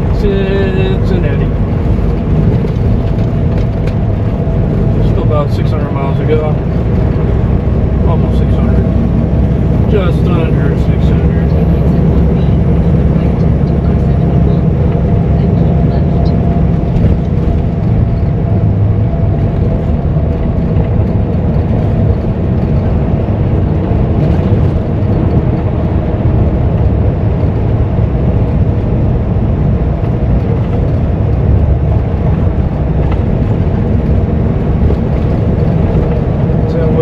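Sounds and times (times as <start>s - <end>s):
road noise: 0.0s - 37.0s
truck diesel engine drone: 0.0s - 37.0s.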